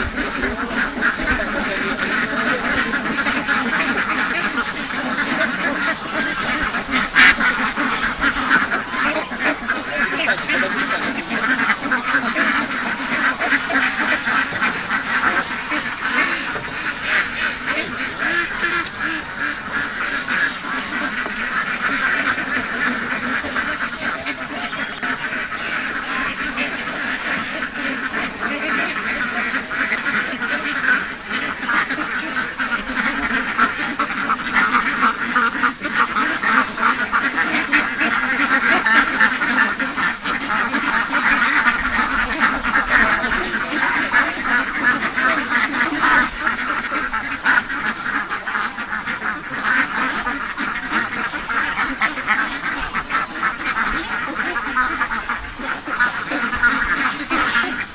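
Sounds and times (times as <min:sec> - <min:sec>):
flock of ducks quacking: 0:00.0 - 0:57.9.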